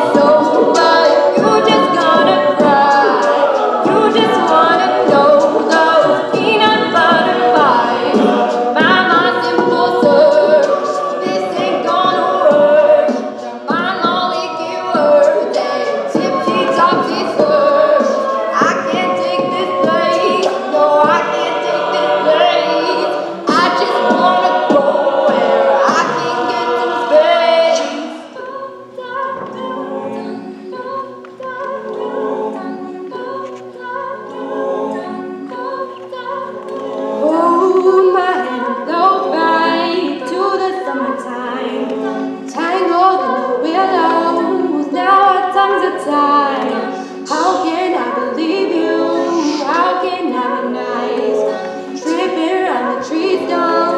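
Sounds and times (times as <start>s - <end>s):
a cappella group singing: 0.0s - 53.9s.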